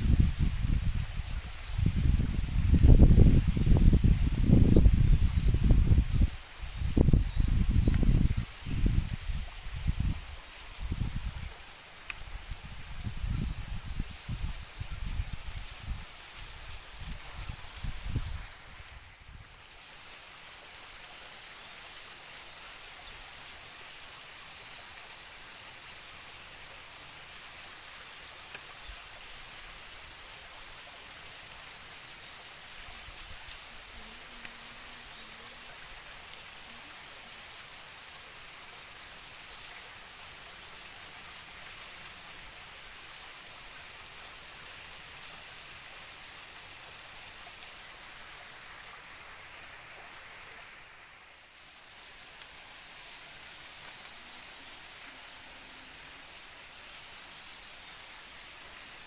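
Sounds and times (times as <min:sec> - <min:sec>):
faint hiss: 0:00.0 - 0:59.0
insect chorus shrilling: 0:00.0 - 0:59.0.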